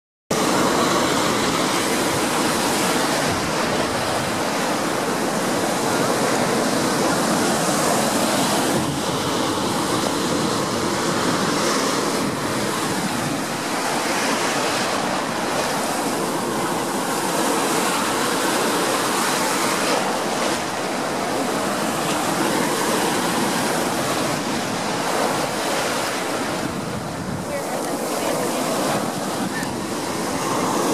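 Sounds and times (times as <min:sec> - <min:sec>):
ocean surf breaking: 0:00.3 - 0:30.9.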